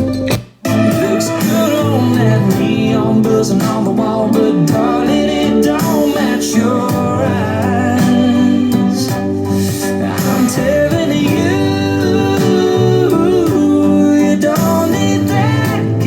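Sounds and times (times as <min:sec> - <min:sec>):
country song over a speaker: 0:00.0 - 0:16.0.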